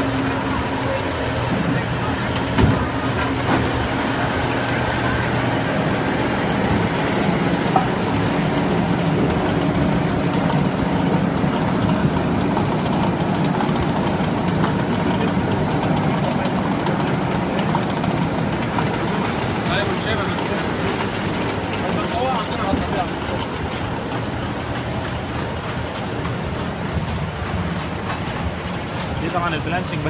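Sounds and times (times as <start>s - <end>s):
conveyors and rollers running: 0.0s - 30.0s
low hum: 0.0s - 30.0s.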